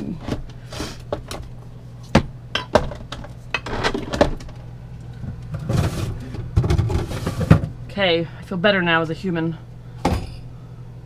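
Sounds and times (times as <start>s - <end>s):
low refrigerator hum: 0.0s - 11.0s.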